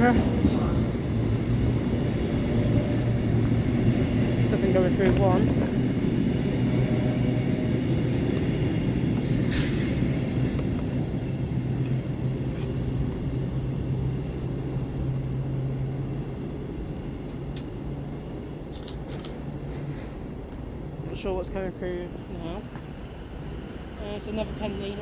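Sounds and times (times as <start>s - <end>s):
train rumble and hum: 0.0s - 25.0s.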